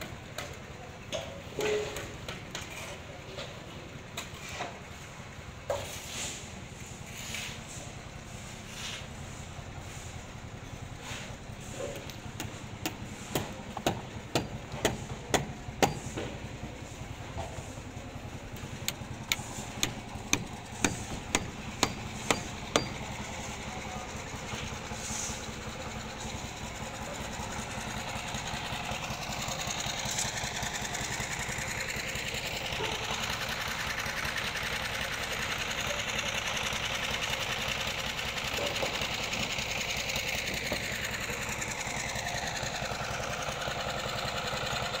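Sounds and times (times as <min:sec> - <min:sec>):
concrete mixer engine running: 0:00.0 - 0:45.0.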